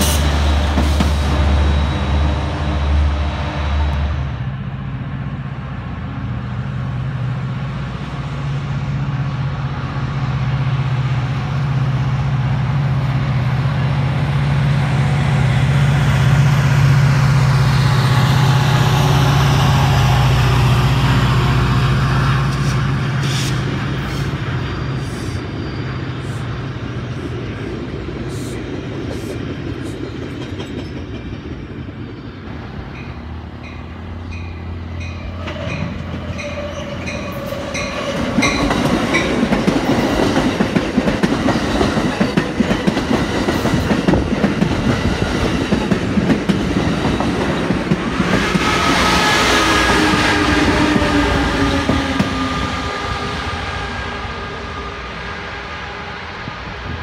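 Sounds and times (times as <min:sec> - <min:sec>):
diesel locomotive rumbling: 0:00.0 - 0:57.0.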